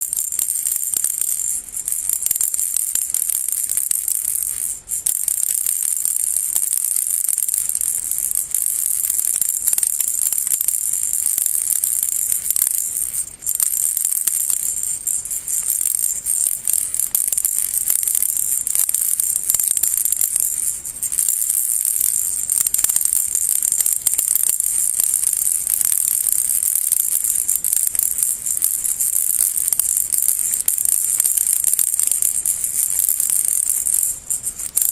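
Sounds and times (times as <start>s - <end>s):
baby rattle shaken: 0.0s - 34.9s.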